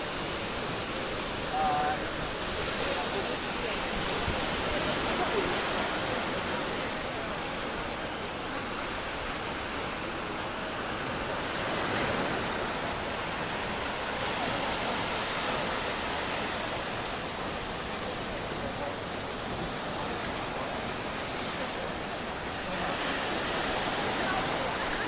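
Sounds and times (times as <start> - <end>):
waves washing onto beach: 0.0 - 25.0.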